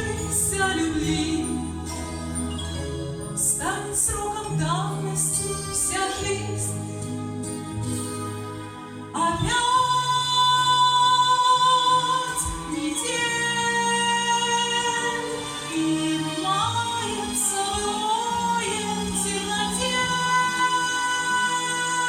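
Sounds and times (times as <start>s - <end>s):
women singing: 0.0s - 2.2s, 3.4s - 7.0s, 9.2s - 22.0s
instrumental accompaniment: 0.0s - 22.0s.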